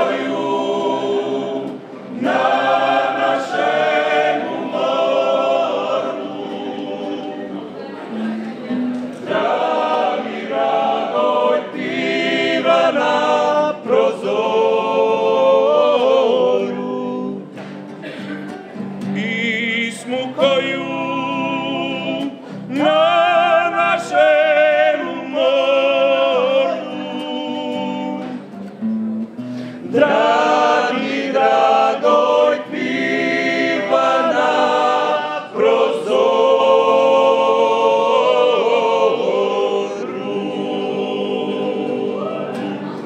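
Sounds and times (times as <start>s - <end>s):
male vocal ensemble singing harmony: 0.0s - 7.8s, 9.2s - 17.7s, 19.1s - 28.5s, 29.8s - 43.0s
nylon-string guitar: 0.0s - 37.4s.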